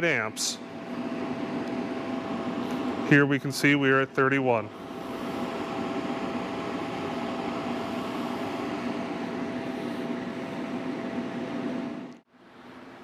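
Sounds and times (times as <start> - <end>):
heater fan blowing air: 0.0 - 13.0
thin steady hum: 0.0 - 13.0.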